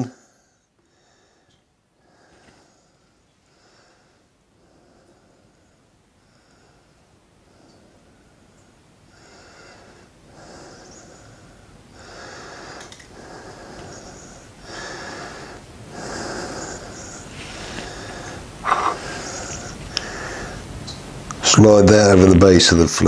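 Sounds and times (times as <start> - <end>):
man breathing heavily through nose: 0.0 - 20.8.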